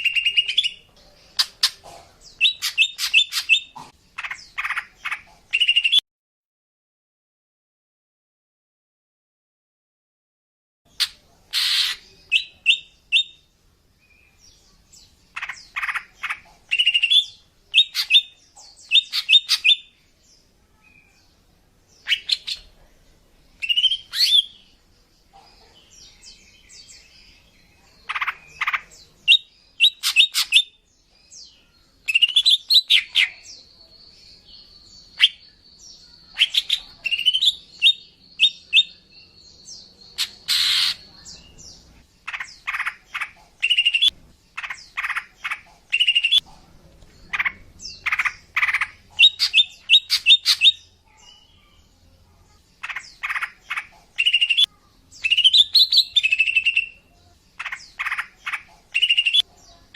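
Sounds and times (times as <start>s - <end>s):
bird chirping: 0.0s - 6.0s, 10.9s - 59.9s.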